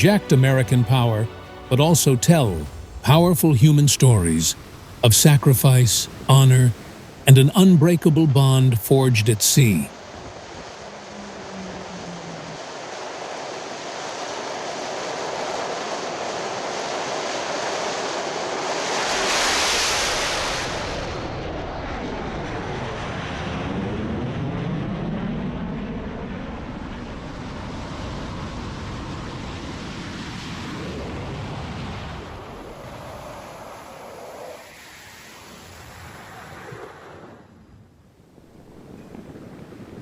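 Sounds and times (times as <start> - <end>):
jet aircraft passing: 0.0 - 37.8.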